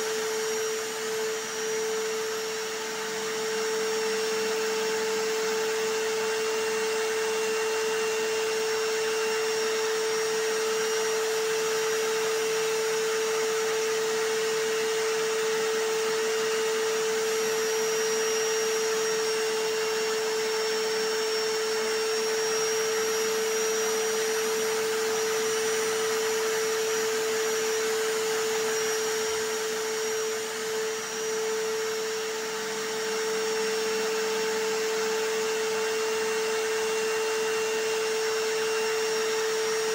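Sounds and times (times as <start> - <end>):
hammer drill running: 0.0 - 39.9
vacuum cleaner: 0.0 - 39.9.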